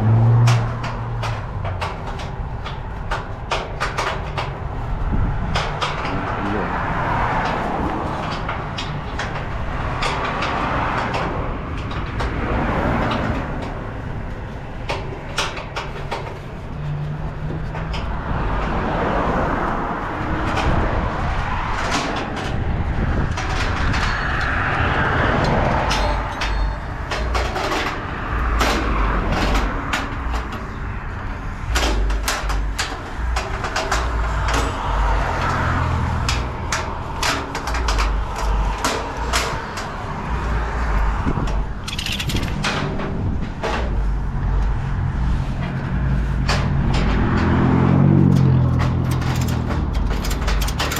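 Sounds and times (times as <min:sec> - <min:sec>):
sharp clicks and rattling knocks: 0:00.0 - 0:50.9
truck engine rumbling: 0:00.0 - 0:50.9.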